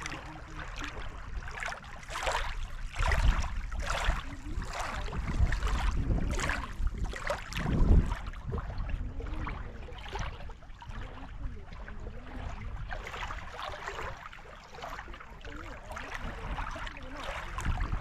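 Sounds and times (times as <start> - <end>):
lake waves lapping on shore: 0.0 - 18.0.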